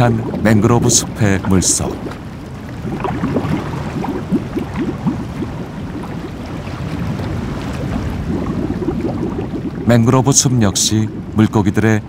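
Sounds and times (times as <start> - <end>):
low underwater rumble: 0.0 - 12.0
underwater bubbling and gurgling: 0.0 - 12.0.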